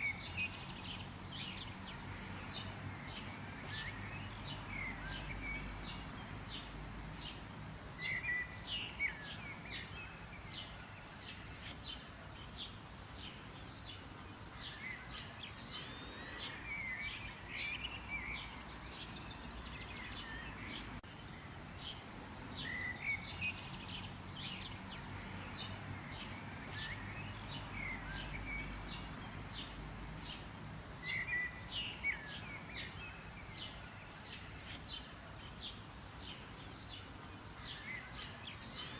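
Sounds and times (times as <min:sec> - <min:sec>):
faint low background noise: 0:00.0 - 0:38.9
songbirds singing and chirping: 0:00.0 - 0:38.9.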